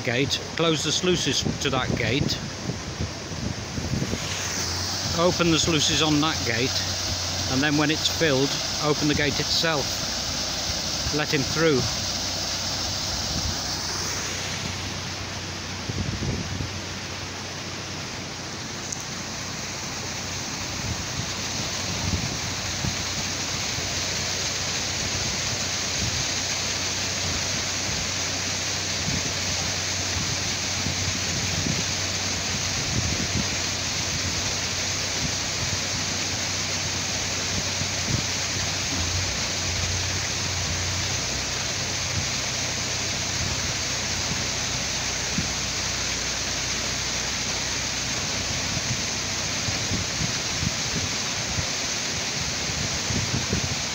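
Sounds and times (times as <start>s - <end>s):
water rushing into canal lock: 0.0s - 53.9s.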